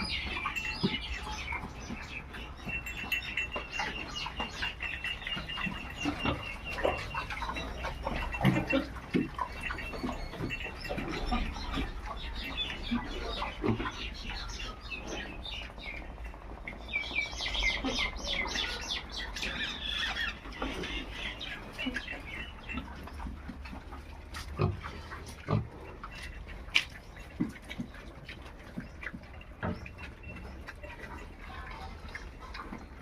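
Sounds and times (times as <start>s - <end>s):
pigs grunting and squealing: 0.0s - 33.0s.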